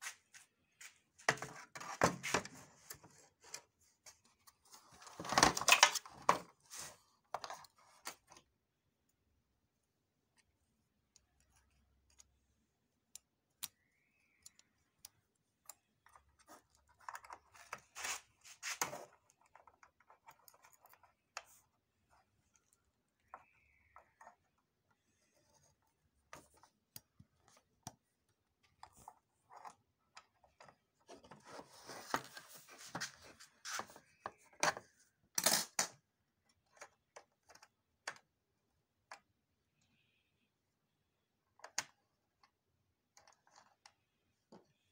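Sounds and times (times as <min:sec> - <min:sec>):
clicks taps and scraping: 0:00.0 - 0:09.3, 0:10.1 - 0:39.4, 0:41.5 - 0:44.9.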